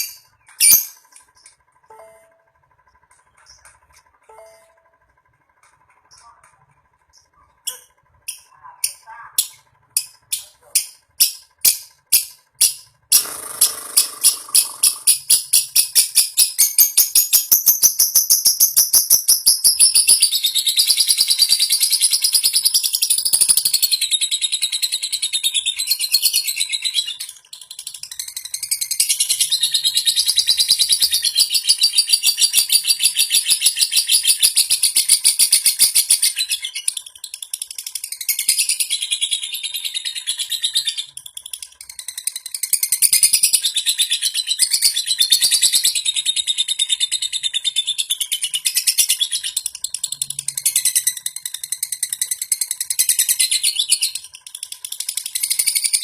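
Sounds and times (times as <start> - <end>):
lovebird chattering: 0.0 - 2.1, 7.1 - 56.0.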